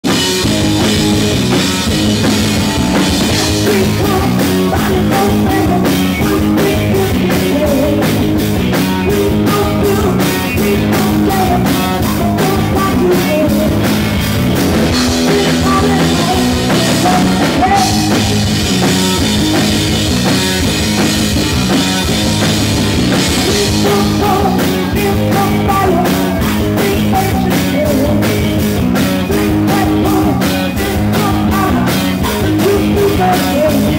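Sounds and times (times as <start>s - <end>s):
drum kit beat: 0.0s - 33.9s
electric bass: 0.0s - 33.9s
electric guitar: 0.0s - 33.9s.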